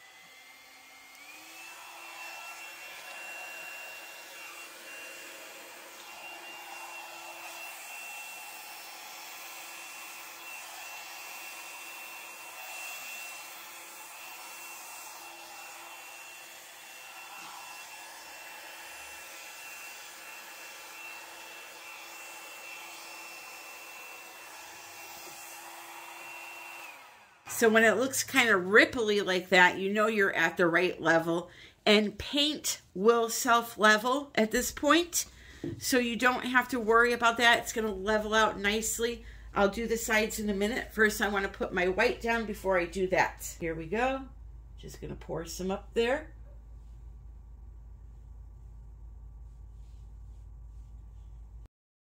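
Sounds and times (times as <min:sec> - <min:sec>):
blow dryer running: 0:00.0 - 0:30.1, 0:34.4 - 0:50.6.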